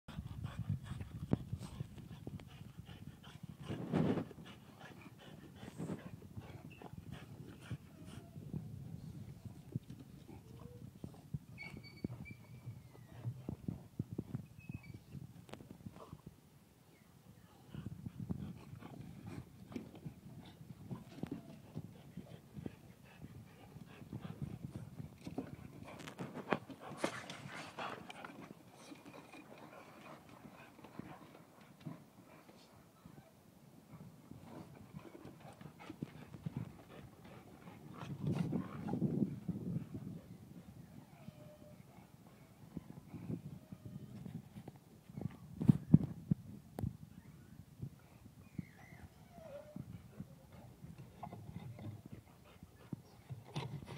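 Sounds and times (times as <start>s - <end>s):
dogs panting and snuffling: 0.1s - 16.3s, 17.5s - 46.1s, 47.8s - 53.9s.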